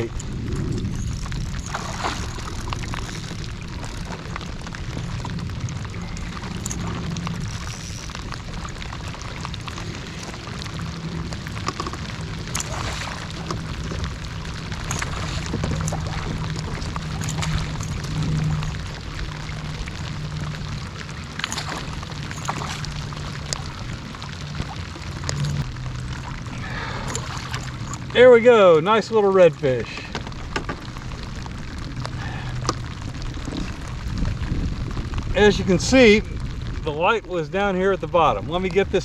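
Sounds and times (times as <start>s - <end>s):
rain on water and kayak: 0.0s - 39.0s
wind rumble on microphone: 0.0s - 39.0s.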